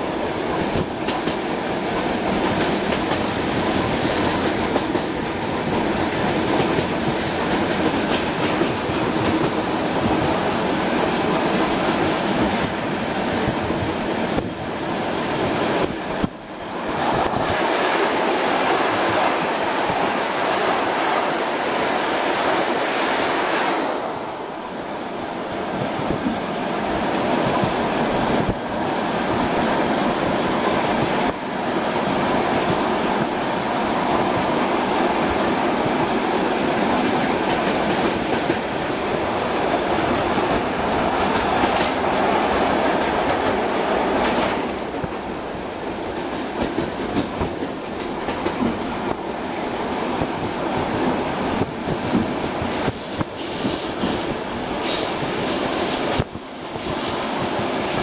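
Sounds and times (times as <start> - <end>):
passing train rush: 0.0 - 58.0
train wheels rumbling over rails: 0.0 - 58.0.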